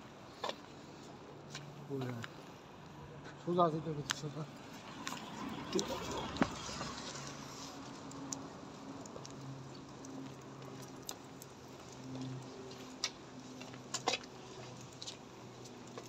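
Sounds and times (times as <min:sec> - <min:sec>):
faint street background: 0:00.0 - 0:16.0.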